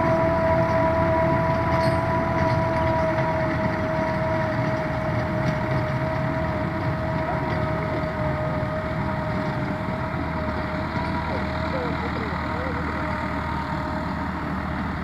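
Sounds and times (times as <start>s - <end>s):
constant high whine: 0.0s - 15.0s
tractor engine under load: 0.0s - 15.0s.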